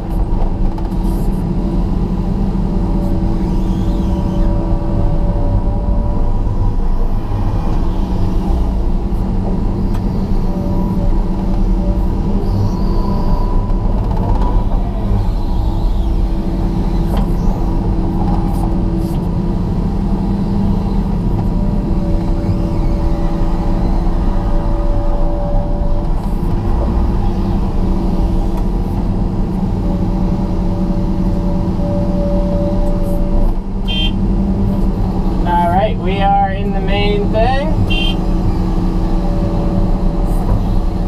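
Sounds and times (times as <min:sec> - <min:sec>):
hydraulic whine: 0:00.0 - 0:35.5, 0:36.8 - 0:41.0
excavator diesel engine running: 0:00.0 - 0:41.0.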